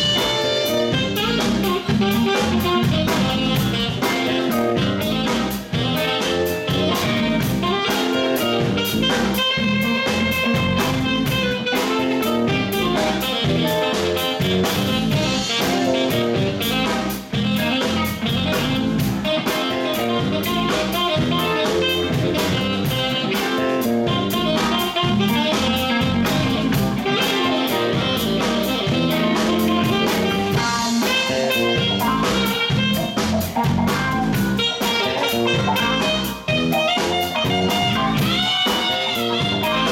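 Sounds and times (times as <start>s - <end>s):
drum kit: 0.0s - 39.9s
electric guitar: 0.0s - 39.9s
saxophone: 0.0s - 39.9s.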